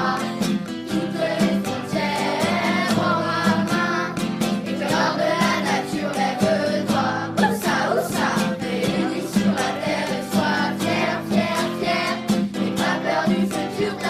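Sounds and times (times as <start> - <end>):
voices singing over a beat: 0.0 - 14.0.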